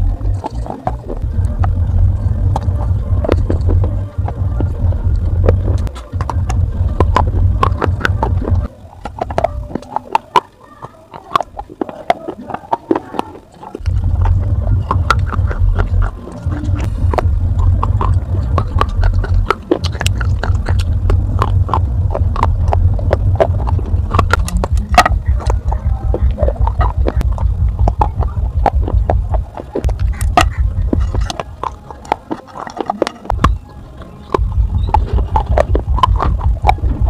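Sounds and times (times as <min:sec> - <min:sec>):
low rumble: 0:00.0 - 0:09.5, 0:13.8 - 0:32.3, 0:33.2 - 0:37.0
crunching hard clay pieces: 0:00.0 - 0:37.0.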